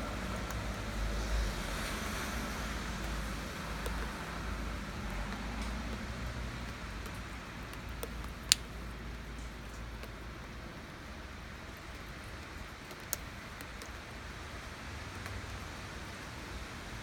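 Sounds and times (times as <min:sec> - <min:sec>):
low traffic rumble: 0:00.0 - 0:17.0
steady rain: 0:00.0 - 0:17.0.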